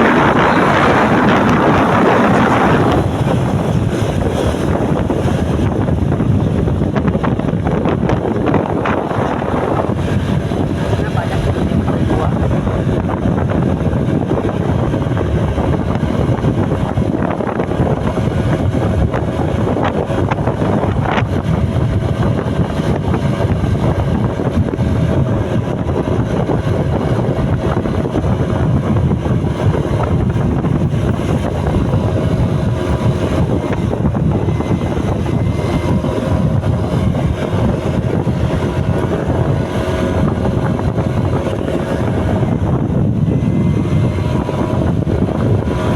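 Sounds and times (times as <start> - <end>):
engine and road noise: 0.0 - 45.9
wind buffeting microphone: 0.0 - 45.9.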